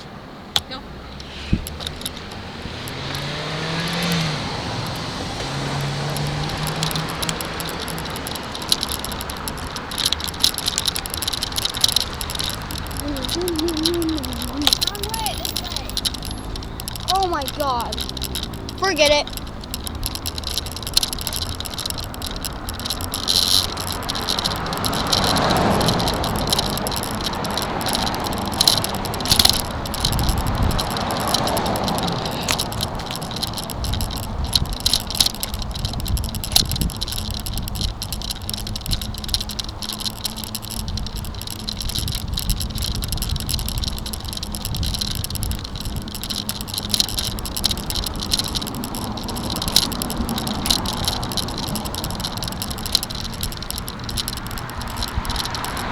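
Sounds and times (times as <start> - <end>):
bicycle rattling over bumpy path: 0.0 - 55.9.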